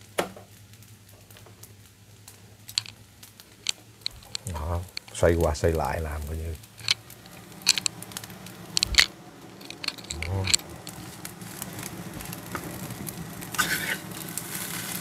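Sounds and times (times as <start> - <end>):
faint frying sizzle: 0.0 - 15.0.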